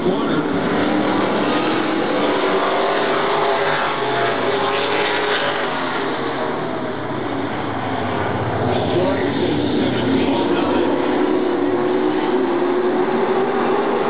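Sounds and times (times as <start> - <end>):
race cars passing at full speed: 0.0 - 14.0.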